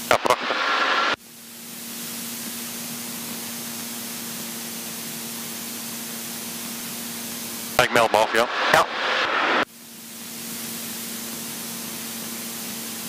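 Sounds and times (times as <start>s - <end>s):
aircraft engine and propeller hum: 0.0s - 13.0s
loud even hiss: 0.0s - 13.0s.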